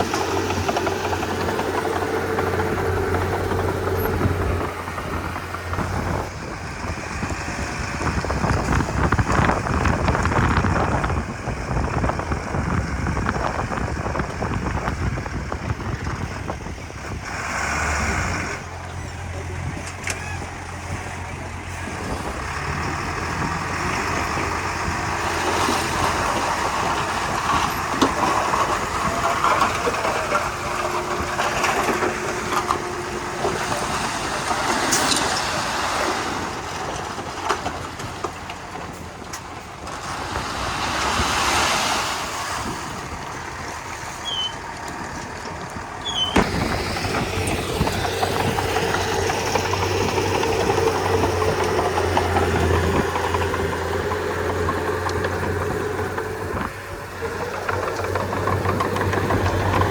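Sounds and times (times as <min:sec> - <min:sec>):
bulldozer diesel engine running: 0:00.0 - 0:59.9
tracks rattling and clanking: 0:00.0 - 0:59.9.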